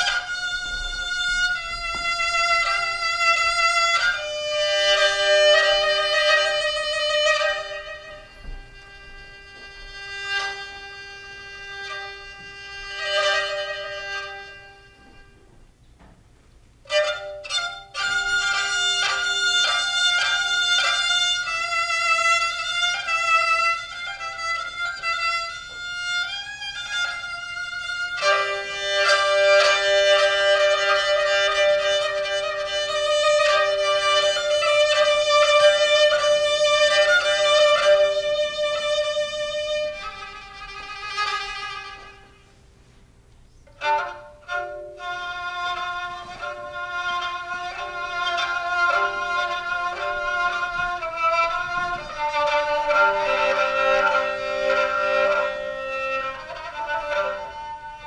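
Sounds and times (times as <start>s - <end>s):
bowed fiddle solo: 0.0s - 15.6s, 16.8s - 42.6s, 43.5s - 58.0s.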